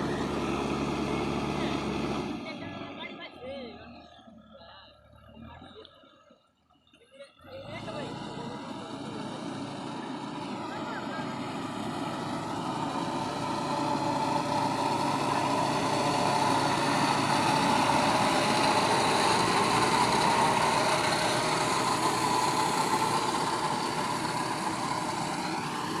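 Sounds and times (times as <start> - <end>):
diesel engine running: 0.0 - 6.2, 7.2 - 26.0.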